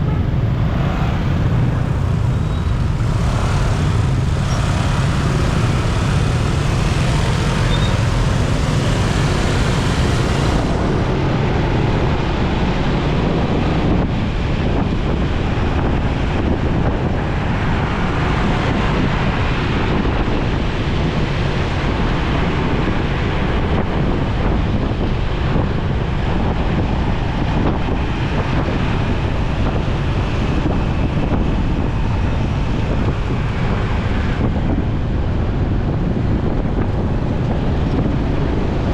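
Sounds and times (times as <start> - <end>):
motorcycle running: 0.0 - 38.9
wind noise on microphone: 0.0 - 38.9.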